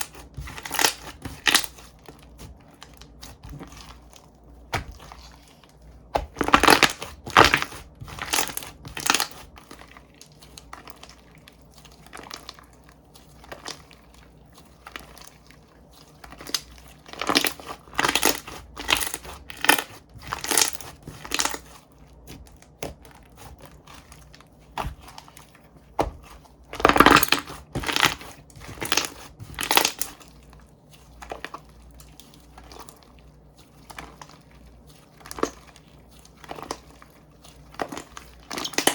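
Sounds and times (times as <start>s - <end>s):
slime squishing: 0.0s - 38.9s.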